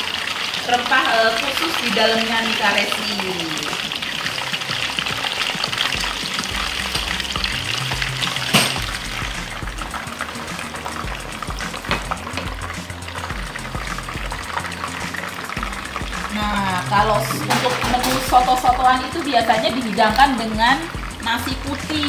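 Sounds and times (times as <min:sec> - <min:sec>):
background music: 0:00.0 - 0:22.0
food sizzling and crackling: 0:00.0 - 0:22.0.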